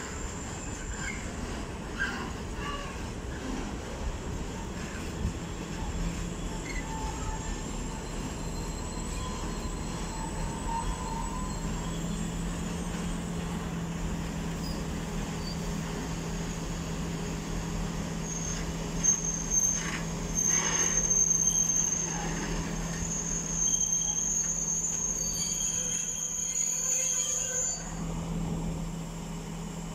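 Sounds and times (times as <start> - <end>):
train wheels squealing: 0.0 - 28.4
freight train rolling past: 0.0 - 29.9.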